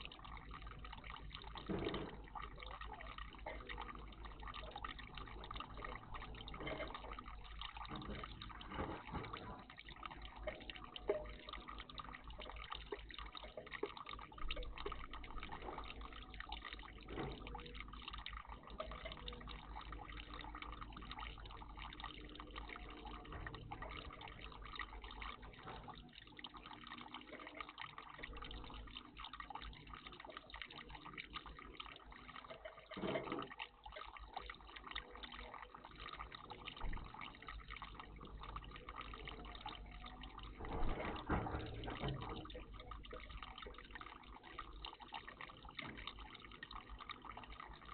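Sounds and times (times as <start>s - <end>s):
water splashes: 0.0s - 47.9s
water trickling and dripping: 0.0s - 47.9s.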